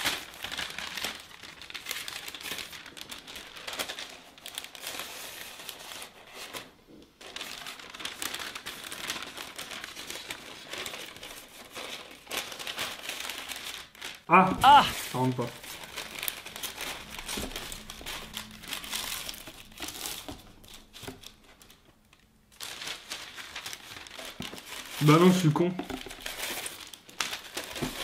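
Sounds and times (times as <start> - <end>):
paper crinkling and rustling: 0.0 - 28.0.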